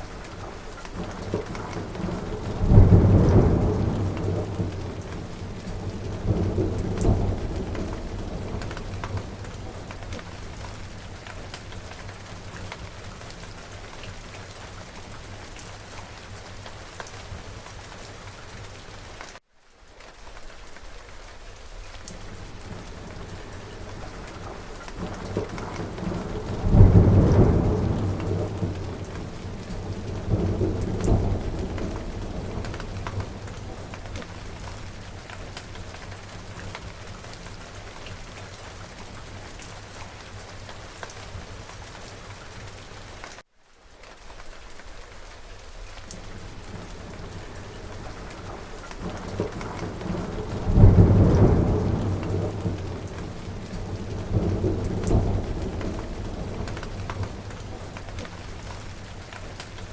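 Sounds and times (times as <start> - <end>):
thunder rumbling: 0.0 - 15.4, 22.2 - 41.8, 46.2 - 59.9
steady rain falling: 0.0 - 59.9.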